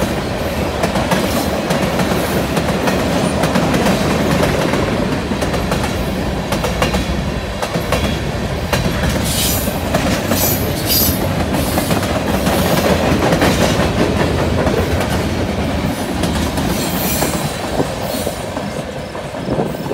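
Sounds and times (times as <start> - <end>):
train wheel rumble and clacking: 0.0 - 19.9.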